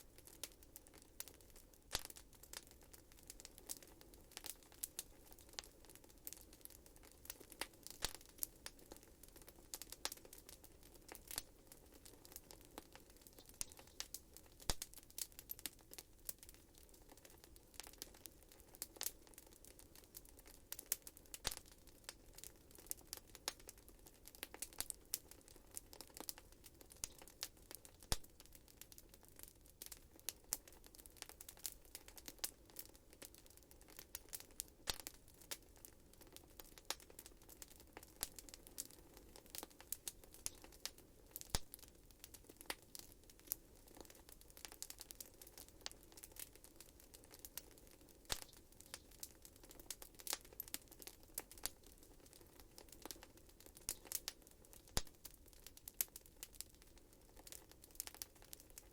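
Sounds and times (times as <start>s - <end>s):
faint steady background: 0.0s - 58.9s
wood fire crackling: 0.0s - 58.9s.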